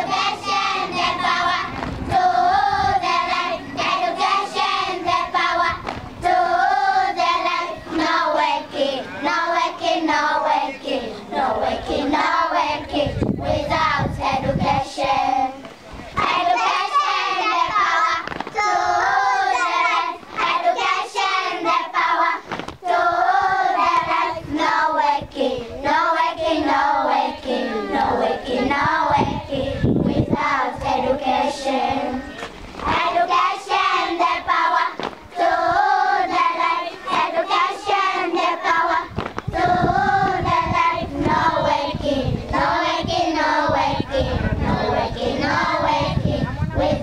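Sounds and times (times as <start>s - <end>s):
girls singing together: 0.0s - 47.0s.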